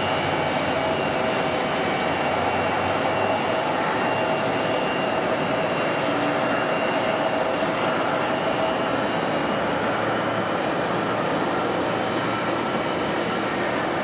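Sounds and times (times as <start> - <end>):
faint engine whine: 0.0 - 14.0
jet engine rush: 0.0 - 14.0.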